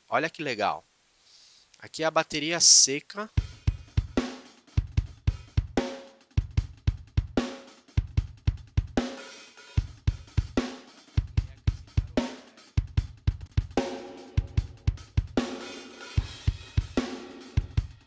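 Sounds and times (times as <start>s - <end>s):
drum kit groove: 3.3s - 18.0s.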